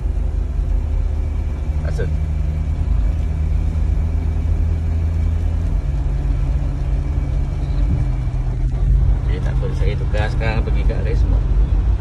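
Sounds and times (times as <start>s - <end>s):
car engine drone: 0.0s - 12.0s
tyre noise on wet road: 0.0s - 12.0s.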